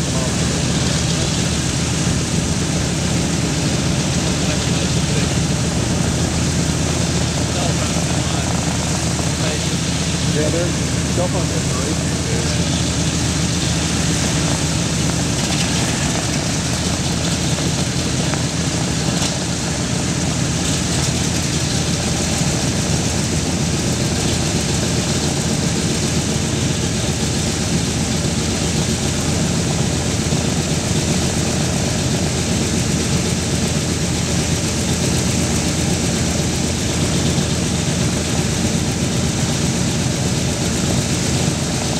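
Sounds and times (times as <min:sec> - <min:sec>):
radial aircraft engines idling: 0:00.0 - 0:41.9.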